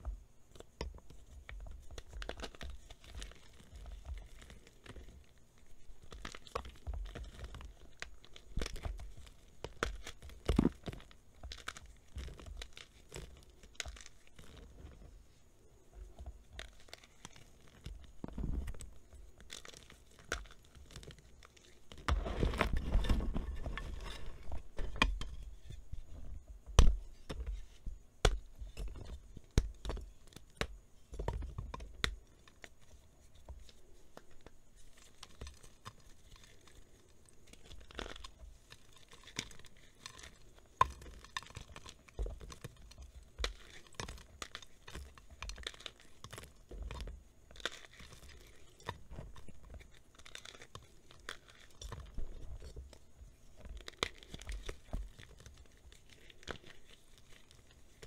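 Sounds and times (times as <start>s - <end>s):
dry chalk crunching and crumbling: 0.0s - 58.0s.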